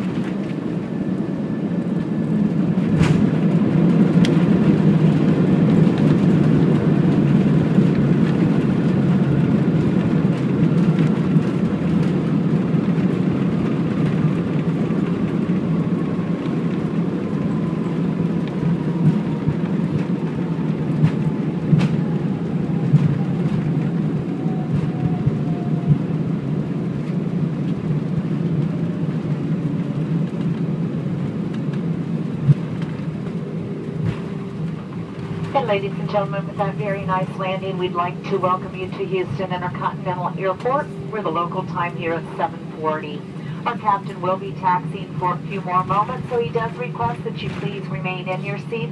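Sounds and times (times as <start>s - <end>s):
jet cabin deep rumble: 0.0s - 48.9s.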